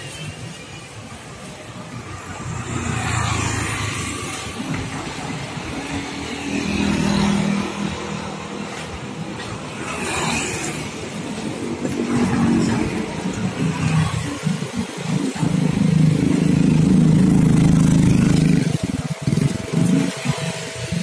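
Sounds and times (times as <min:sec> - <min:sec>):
motorcycles passing: 0:00.0 - 0:21.0
road traffic passing: 0:00.0 - 0:21.0.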